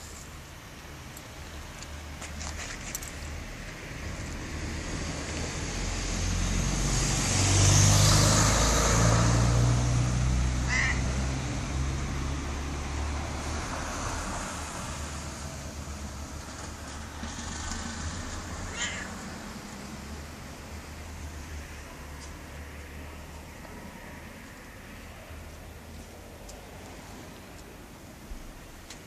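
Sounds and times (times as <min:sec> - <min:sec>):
vehicle passing by: 0:03.3 - 0:27.5.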